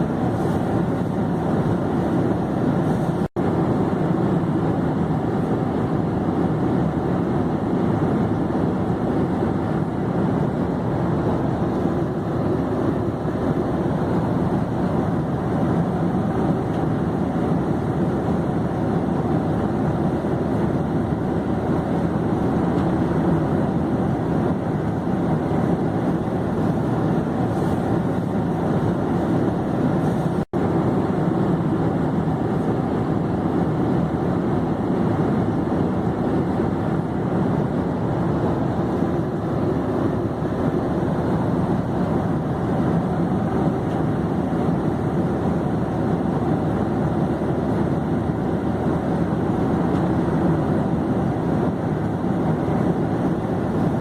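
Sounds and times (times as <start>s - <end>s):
airplane engine and air noise: 0.0s - 54.0s.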